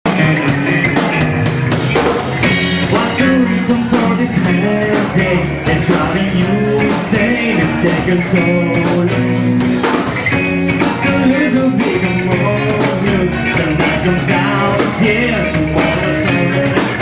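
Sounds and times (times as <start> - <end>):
electric guitar: 0.0 - 17.0
drum beat with cymbal hits: 0.1 - 17.0.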